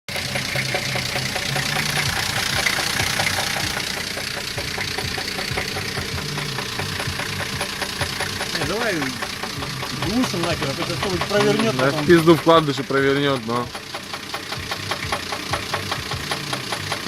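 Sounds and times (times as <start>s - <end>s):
car engine idling: 0.1s - 17.0s
fast knock inside engine: 0.1s - 17.0s.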